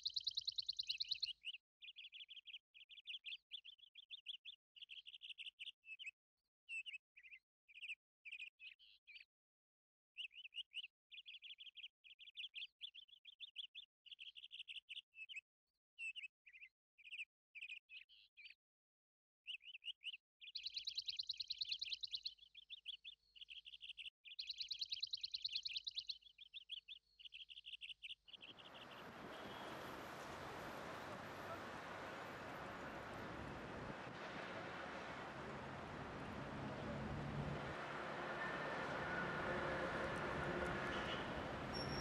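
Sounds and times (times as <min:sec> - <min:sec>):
faint birdsong chirps and trills: 0:00.0 - 0:09.4, 0:10.2 - 0:18.7, 0:19.4 - 0:42.0.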